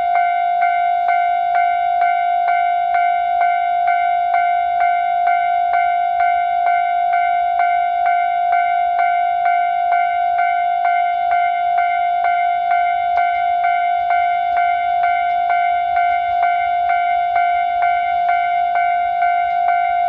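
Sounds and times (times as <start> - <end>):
level-crossing warning bell ringing: 0.0 - 20.0.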